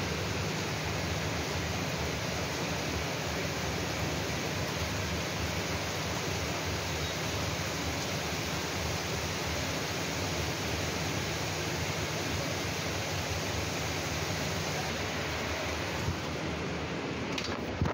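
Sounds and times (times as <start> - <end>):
heavy rain hissing: 0.0 - 17.8.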